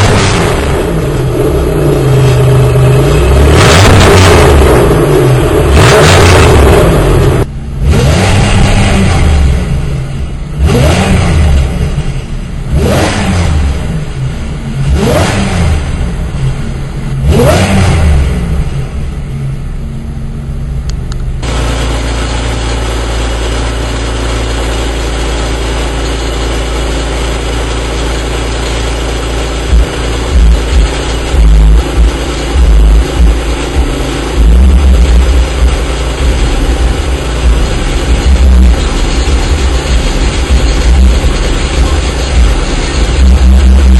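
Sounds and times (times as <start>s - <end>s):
car engine revving: 0.0s - 43.9s
steady engine note: 0.0s - 43.9s.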